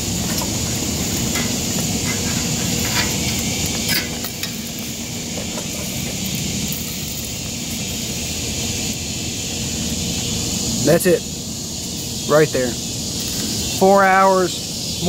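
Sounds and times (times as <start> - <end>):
outdoor hiss and rumble: 0.0 - 15.0.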